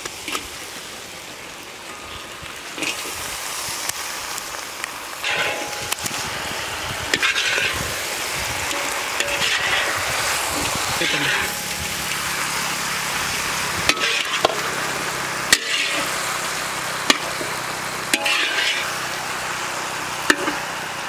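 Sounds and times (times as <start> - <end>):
food frying in hot oil: 0.0 - 21.0.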